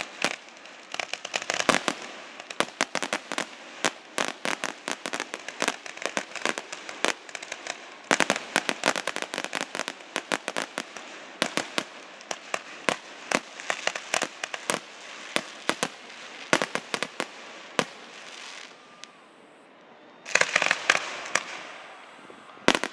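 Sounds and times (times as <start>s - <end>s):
fireworks crackle: 0.0s - 19.2s, 20.3s - 22.9s
fireworks bangs: 0.0s - 19.3s, 20.2s - 22.9s.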